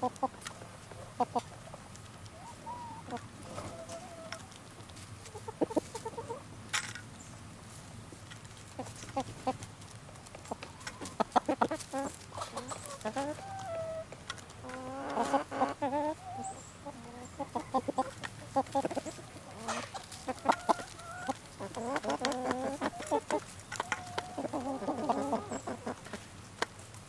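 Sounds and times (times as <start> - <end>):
hens clucking: 0.0 - 26.9.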